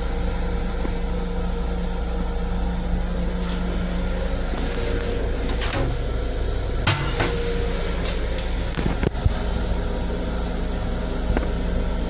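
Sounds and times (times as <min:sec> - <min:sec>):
railcar running drone: 0:00.0 - 0:12.0.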